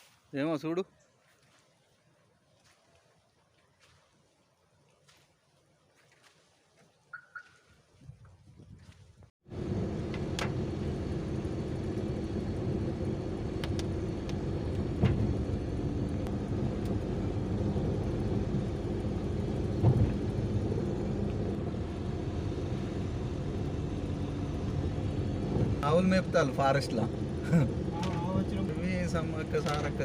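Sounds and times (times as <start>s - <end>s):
vehicle engine and road noise: 1.3s - 30.0s.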